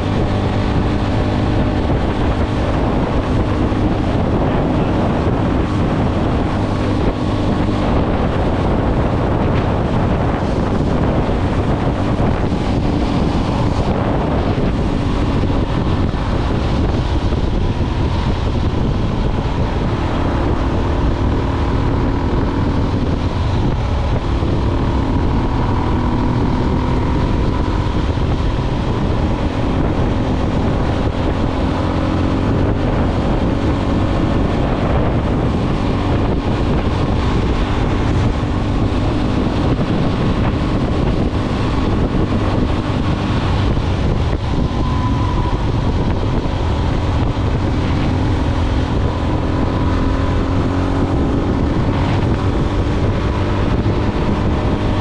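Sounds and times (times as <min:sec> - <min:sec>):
motorcycle engine drone: 0:00.0 - 0:55.0
wind buffeting microphone: 0:00.0 - 0:55.0.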